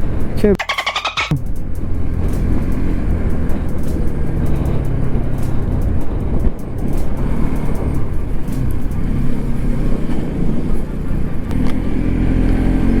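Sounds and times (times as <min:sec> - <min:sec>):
vehicle engine revving: 0:01.2 - 0:13.0.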